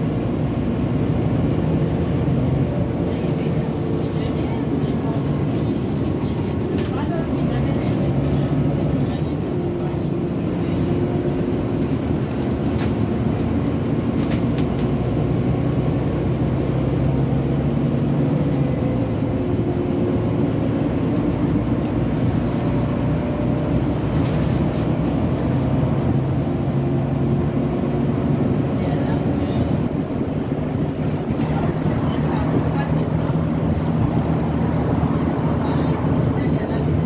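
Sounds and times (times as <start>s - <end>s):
bus engine droning: 0.0s - 37.0s.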